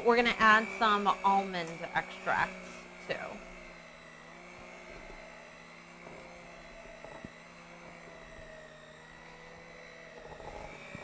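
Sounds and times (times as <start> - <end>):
electric hand mixer whine: 0.0 - 11.0.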